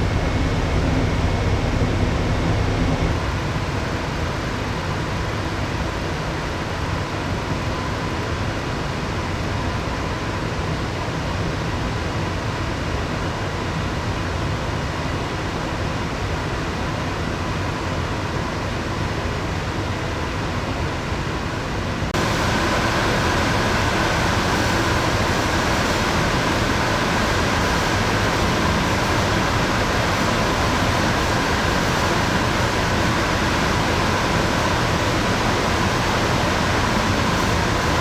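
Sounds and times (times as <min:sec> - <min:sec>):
faint steady whine: 0:00.0 - 0:12.0, 0:12.7 - 0:38.0
ship machinery hum and hiss: 0:00.0 - 0:38.0.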